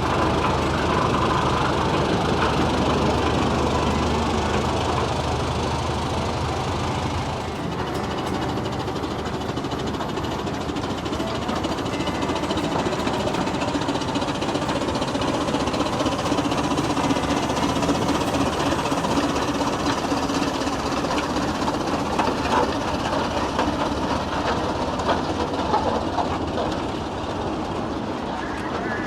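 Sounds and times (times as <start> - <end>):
steam engine mechanical clatter: 0.0 - 29.0.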